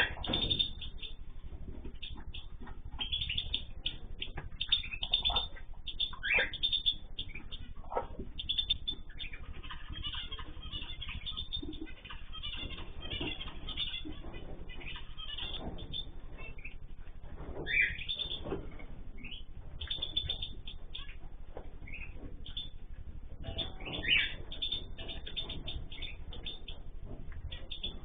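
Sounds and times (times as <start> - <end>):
cage birds chirping: 0.0 - 28.0
loud falling bird calls: 0.0 - 28.0.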